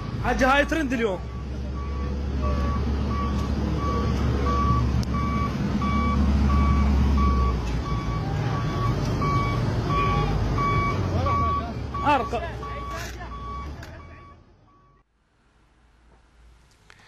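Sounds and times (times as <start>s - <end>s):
truck reversing alarm beeping: 0.0s - 15.0s
truck engine rumble: 0.0s - 17.0s.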